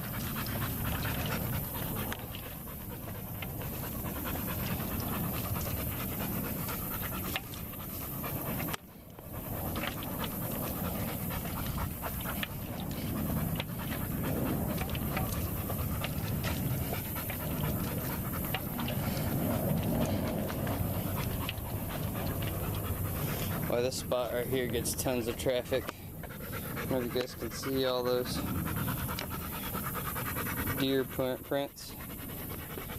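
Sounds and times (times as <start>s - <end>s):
dog panting: 0.0s - 32.9s.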